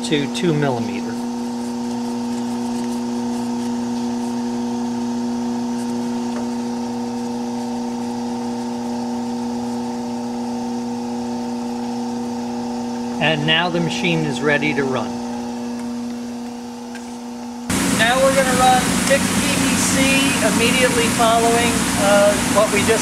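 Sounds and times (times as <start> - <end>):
machine motor hum: 0.0 - 23.0.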